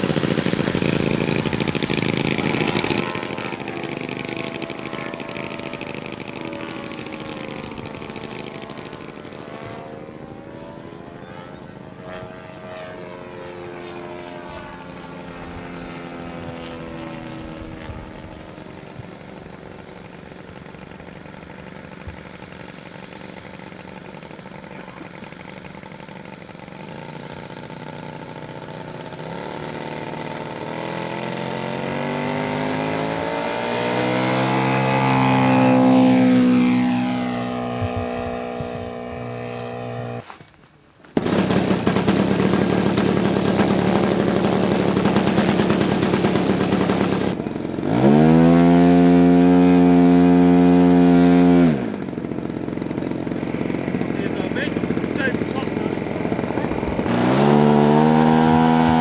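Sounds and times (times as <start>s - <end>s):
model aircraft engine: 0.0s - 59.0s.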